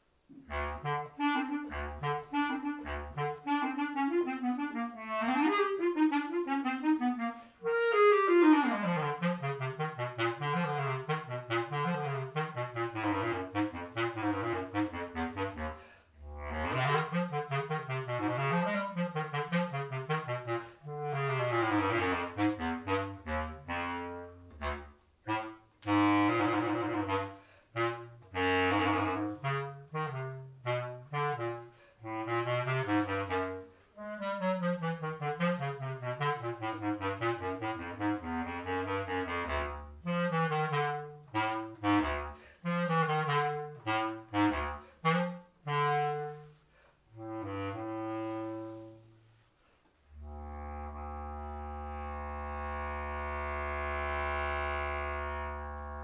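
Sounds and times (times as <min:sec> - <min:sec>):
bass clarinet playing: 0:00.0 - 0:56.0.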